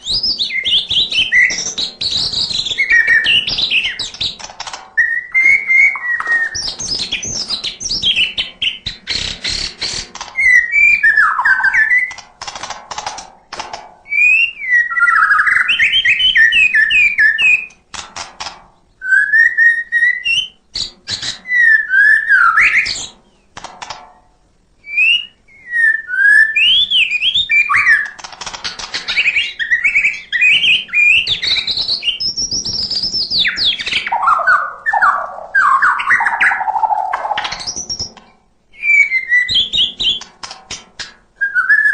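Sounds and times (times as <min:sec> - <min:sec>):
bird singing varied song: 0:00.0 - 0:17.8, 0:18.6 - 0:40.3, 0:41.4 - 0:41.9.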